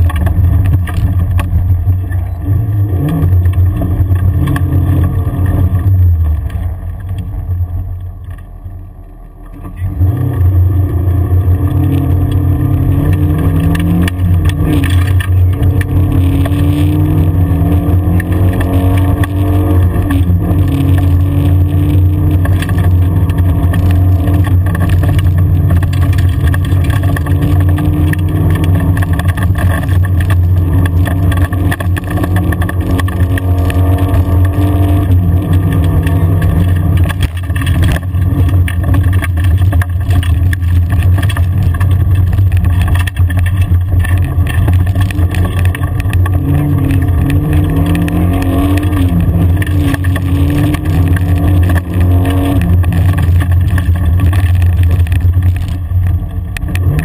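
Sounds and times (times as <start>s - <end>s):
rally car engine revving: 0.0s - 57.0s
tyres on gravel: 0.0s - 57.0s.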